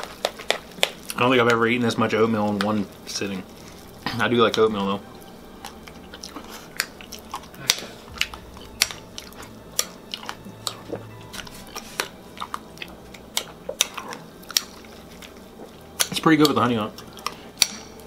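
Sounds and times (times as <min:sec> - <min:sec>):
chewing and wet mouth sounds: 0:00.0 - 0:18.0.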